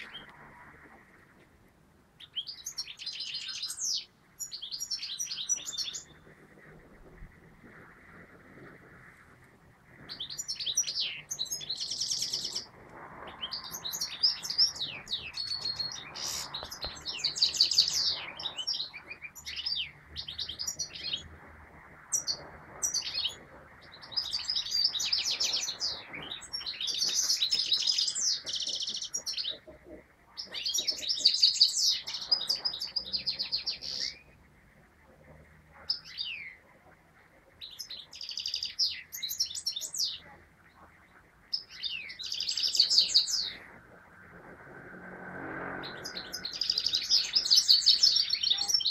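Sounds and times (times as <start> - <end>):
goldfinch twittering song: 2.2 - 7.6, 10.0 - 29.7, 30.3 - 36.6, 37.6 - 44.1, 45.7 - 48.9.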